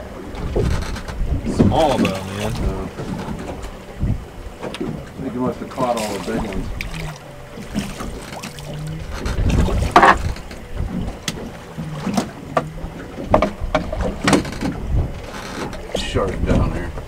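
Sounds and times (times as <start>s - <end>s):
low rumble: 0.0s - 17.0s
water moving around boat: 0.0s - 17.0s
wind buffeting microphone: 0.0s - 17.0s.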